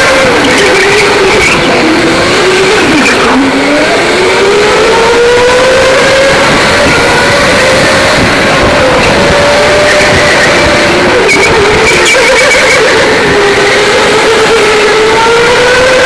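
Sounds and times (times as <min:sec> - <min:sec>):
electric go-kart motor whining: 0:00.0 - 0:16.0.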